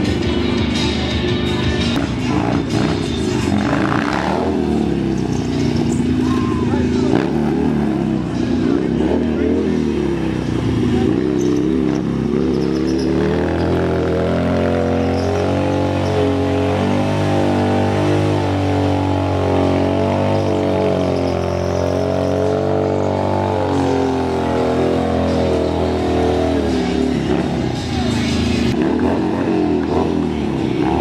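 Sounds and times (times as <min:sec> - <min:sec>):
motorcycle engine revving high: 0:00.0 - 0:31.0.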